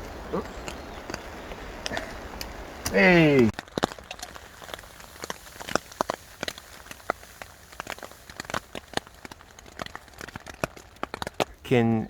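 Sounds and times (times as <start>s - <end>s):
faint rain hiss: 0.0s - 12.0s
raindrops tapping: 0.0s - 12.0s.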